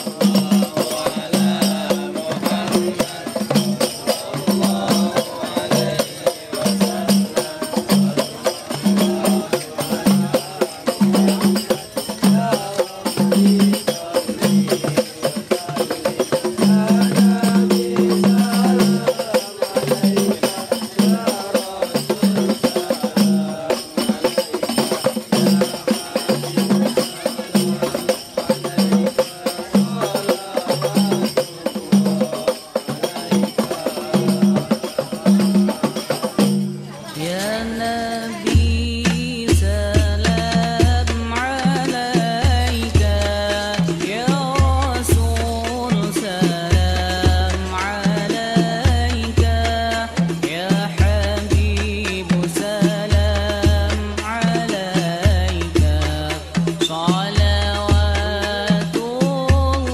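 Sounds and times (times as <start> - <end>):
frame drums playing: 0.0 - 59.9
men singing: 0.0 - 59.9.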